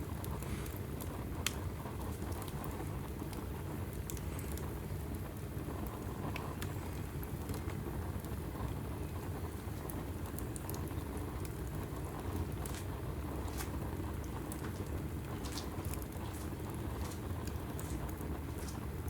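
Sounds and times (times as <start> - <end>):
logs crackling and popping: 0.0 - 19.0
wood fire burning: 0.0 - 19.0.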